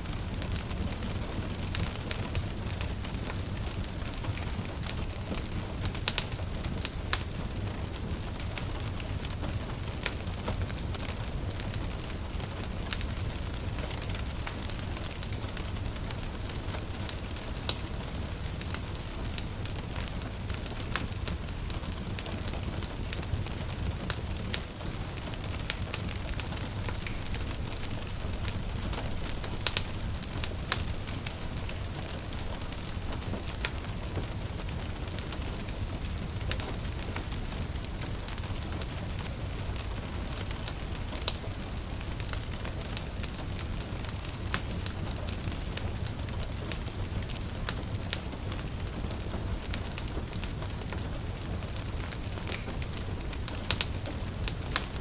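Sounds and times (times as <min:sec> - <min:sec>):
gentle rain: 0:00.0 - 0:55.0
wood fire crackling and popping: 0:00.0 - 0:55.0.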